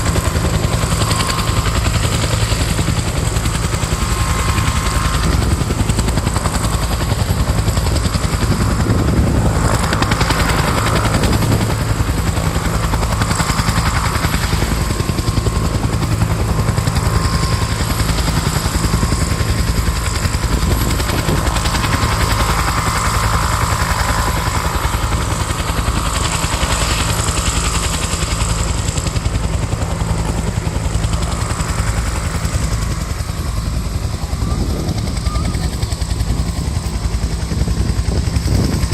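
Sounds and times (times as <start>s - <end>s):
helicopter rotor beating: 0.0s - 38.9s.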